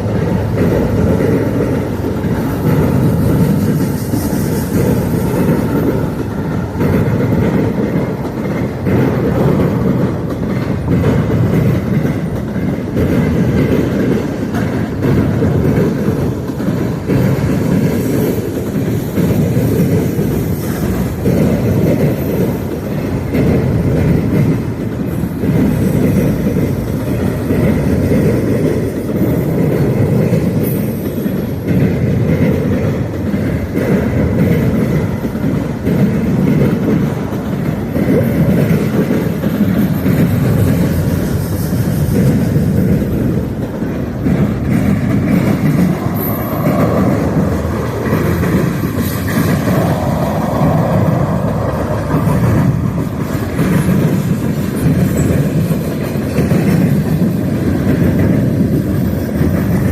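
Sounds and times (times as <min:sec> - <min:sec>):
freight train rumbling past: 0:00.0 - 0:59.9
wheels clattering over rails: 0:00.0 - 0:59.9.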